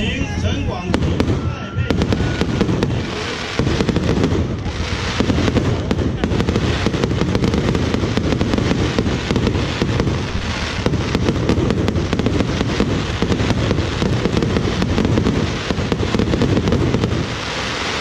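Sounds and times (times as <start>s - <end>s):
deep rumble: 0.0s - 17.4s
fireworks crackling: 0.0s - 18.0s.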